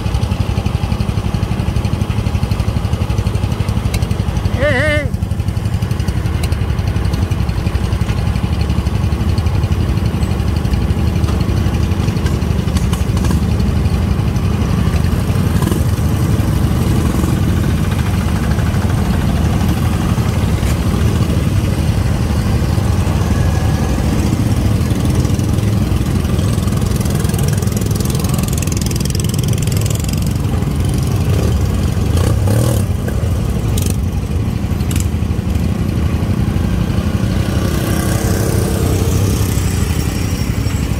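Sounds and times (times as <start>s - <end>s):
garden tractor engines running: 0.0s - 40.9s.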